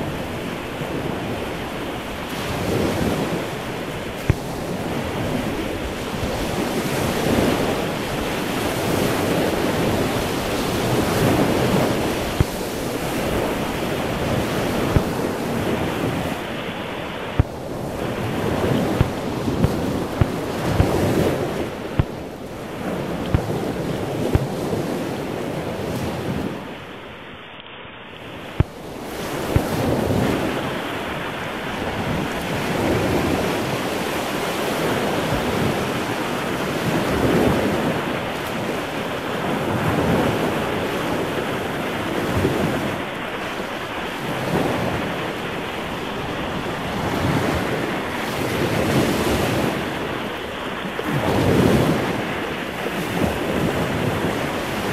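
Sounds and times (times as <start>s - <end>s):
wind buffeting microphone: 0.0s - 27.0s, 28.2s - 54.9s
sea surf breaking on beach: 0.0s - 54.9s.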